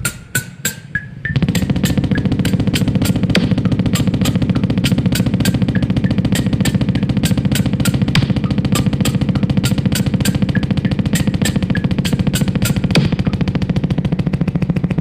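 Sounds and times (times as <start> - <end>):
heavy bass: 0.0 - 15.0
loud music with fast drum beat: 1.4 - 13.4.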